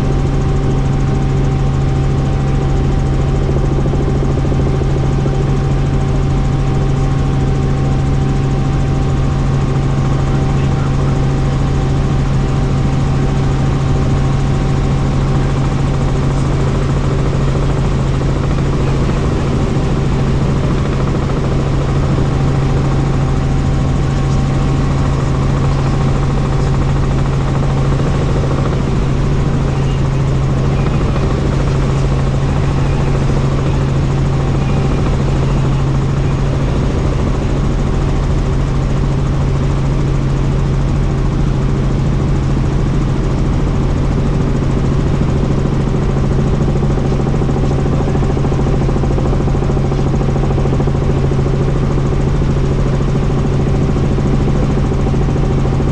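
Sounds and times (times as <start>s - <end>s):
helicopter droning: 0.0s - 55.9s.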